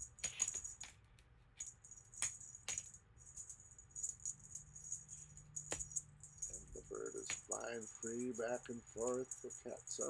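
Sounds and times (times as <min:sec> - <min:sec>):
toy jingling and rattling: 0:00.0 - 0:01.0, 0:01.6 - 0:10.0.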